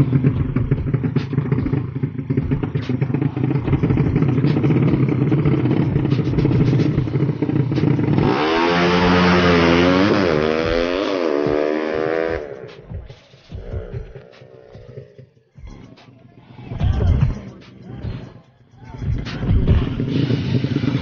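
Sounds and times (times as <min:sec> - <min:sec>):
motorcycle engine rumbling and revving: 0:00.0 - 0:21.0.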